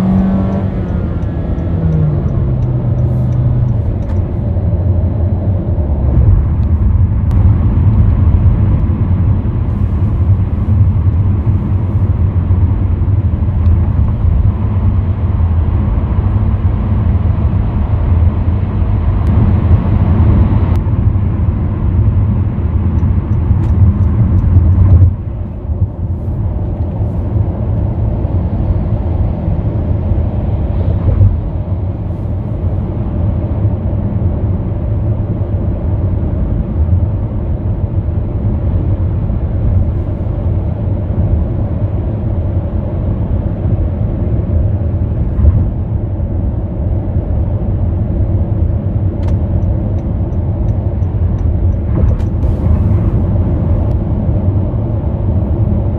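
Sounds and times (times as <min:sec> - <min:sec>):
car road noise inside cabin: 0:00.0 - 0:55.9.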